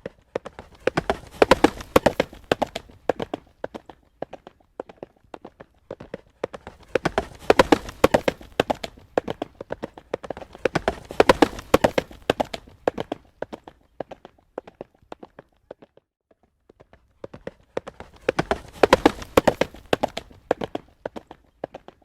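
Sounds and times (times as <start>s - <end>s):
horse hooves trotting on road: 0.0s - 22.0s.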